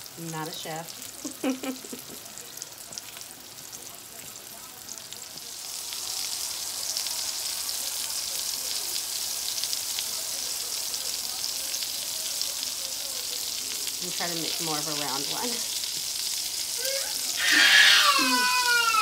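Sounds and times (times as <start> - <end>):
butter sizzling in a frying pan: 0.0 - 19.0.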